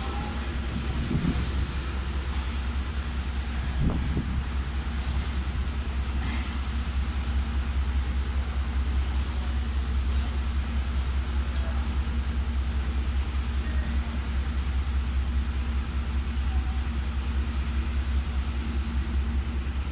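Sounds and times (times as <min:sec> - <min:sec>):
low engine rumble: 0:00.0 - 0:19.9.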